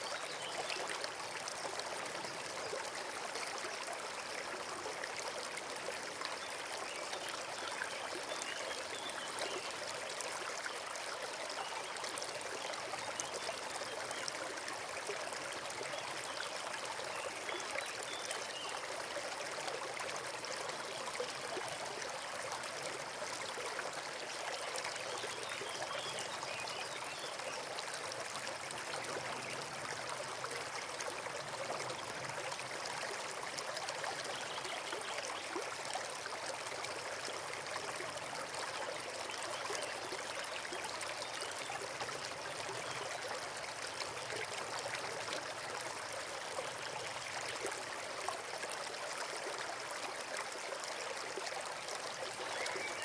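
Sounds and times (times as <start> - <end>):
forest brook babbling: 0.0 - 53.0.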